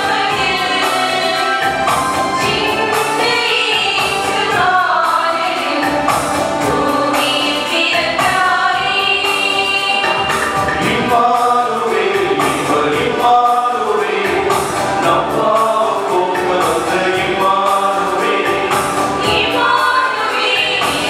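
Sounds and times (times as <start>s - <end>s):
mixed choir singing a hymn: 0.0s - 21.0s.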